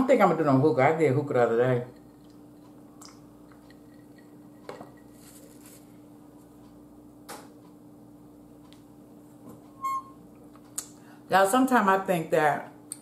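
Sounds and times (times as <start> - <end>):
quiet steady hum: 0.0 - 13.0.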